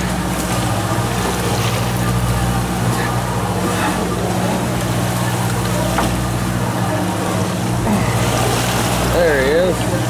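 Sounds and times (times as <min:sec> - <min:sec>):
boat engine humming: 0:00.0 - 0:10.0
wind and water noise: 0:00.0 - 0:10.0.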